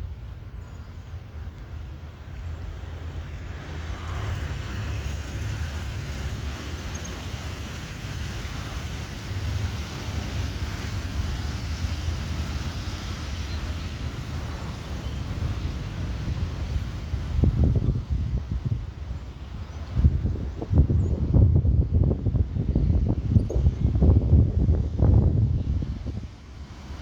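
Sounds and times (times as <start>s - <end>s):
jet engines rumbling: 0.0s - 27.0s
wind buffeting microphone: 0.0s - 27.0s.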